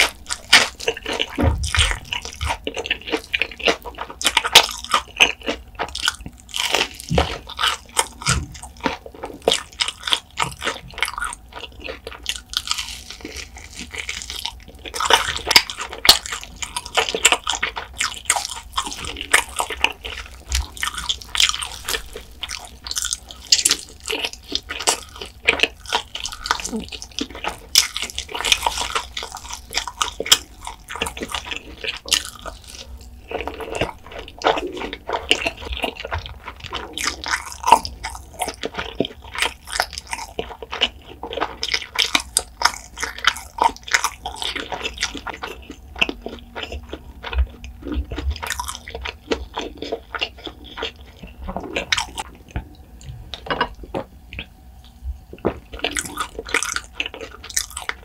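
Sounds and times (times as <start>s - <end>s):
chewing crunchy chicken: 0.0s - 58.0s.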